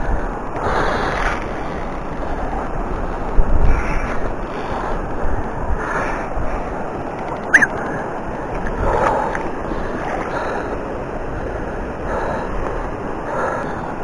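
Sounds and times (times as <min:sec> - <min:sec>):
river water flowing: 0:00.0 - 0:14.0
wind buffeting microphone: 0:00.0 - 0:14.0.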